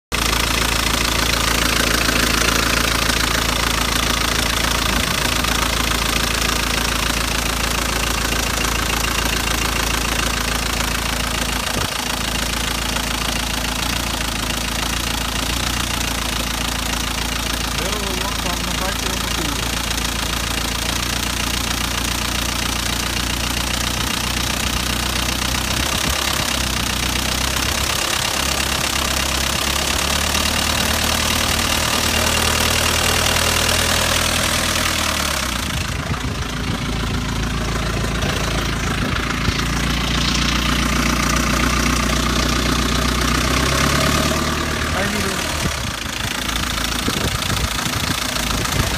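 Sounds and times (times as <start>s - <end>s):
car engine idling: 0.1s - 48.9s.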